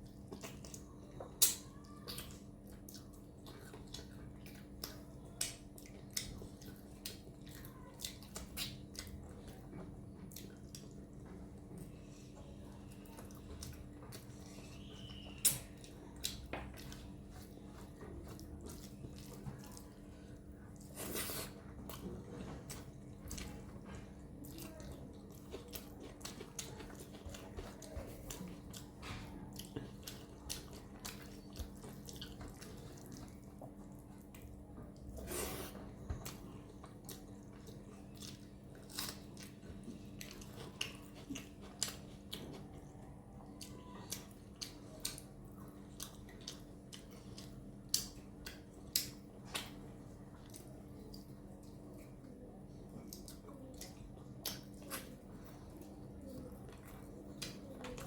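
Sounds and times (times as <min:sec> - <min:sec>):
wet chewing and mouth smacks: 0:00.0 - 0:58.0.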